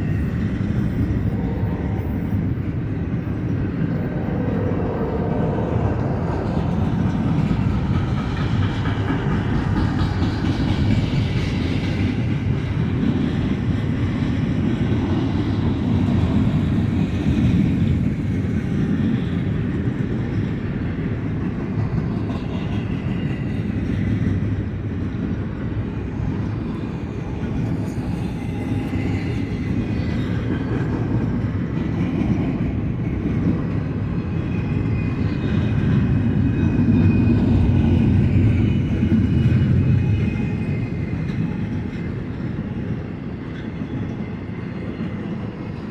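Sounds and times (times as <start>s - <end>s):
freight train wheels rumbling on rail: 0.0s - 45.9s.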